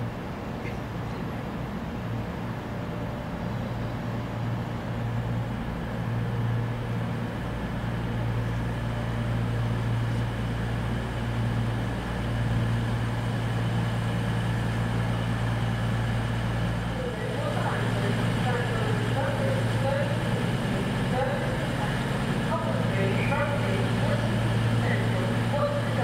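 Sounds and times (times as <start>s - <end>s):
train running hum: 0.0s - 26.0s.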